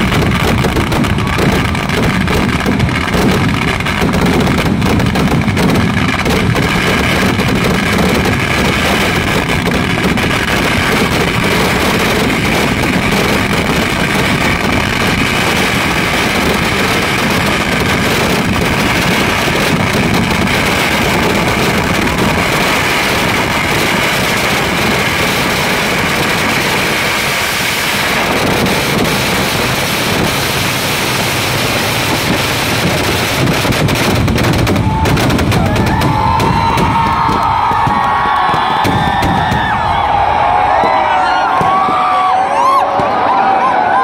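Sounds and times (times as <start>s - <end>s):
fireworks barrage explosions: 0.0s - 44.0s.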